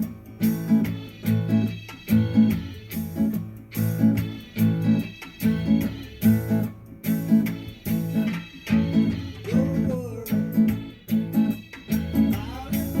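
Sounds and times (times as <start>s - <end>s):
guitar strumming off-beat chords: 0.0s - 13.0s.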